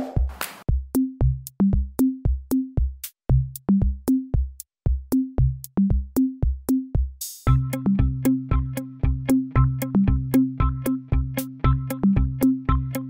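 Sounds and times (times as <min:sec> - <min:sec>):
electronic beat music: 0:00.0 - 0:13.0.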